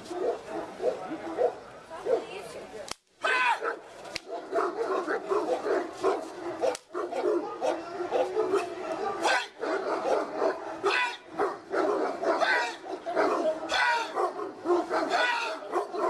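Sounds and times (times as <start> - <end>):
dog barking: 0.1 - 2.4, 3.3 - 16.0.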